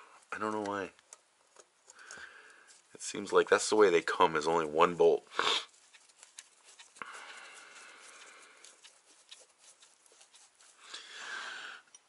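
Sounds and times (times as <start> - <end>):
gloved hand rustling: 0.0 - 11.4
soft hiss: 0.0 - 12.0.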